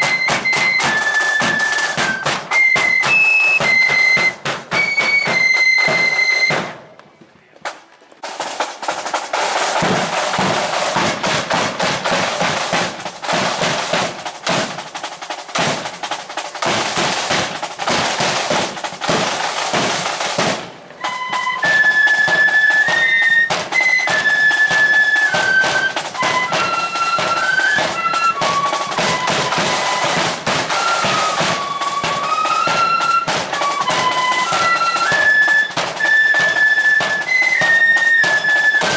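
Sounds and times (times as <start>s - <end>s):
flutes playing a melody: 0.0s - 6.8s, 9.1s - 38.9s
marching drums: 0.0s - 38.9s.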